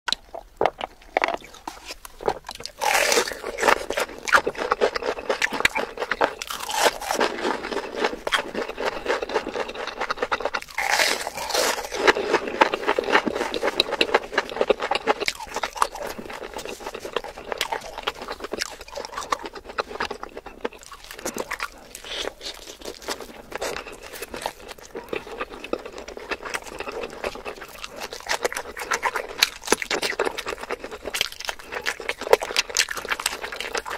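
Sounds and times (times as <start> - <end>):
person chewing chicken: 0.1 - 33.9.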